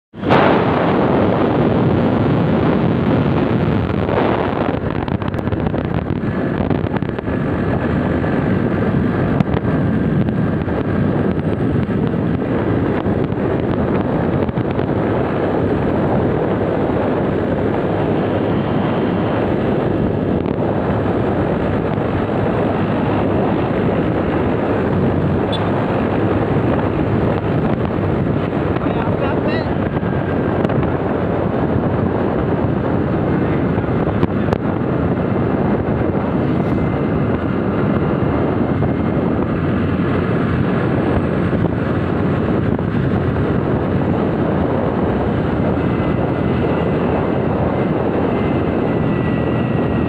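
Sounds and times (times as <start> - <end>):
motorcycle engine: 0.1 - 50.0
road noise: 0.1 - 50.0
wind rushing over microphone: 0.1 - 50.0.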